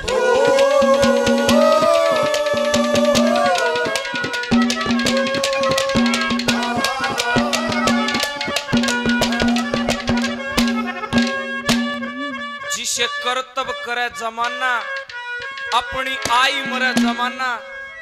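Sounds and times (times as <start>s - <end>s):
wavering melody line: 0.0s - 12.7s, 15.0s - 17.6s
hand drum strokes: 0.0s - 12.8s, 14.5s - 17.6s.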